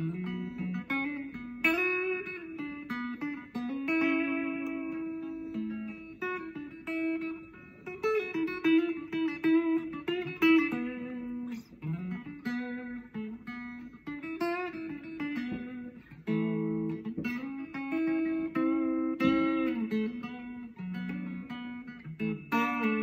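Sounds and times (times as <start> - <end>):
electric guitar melody: 0.0 - 23.0.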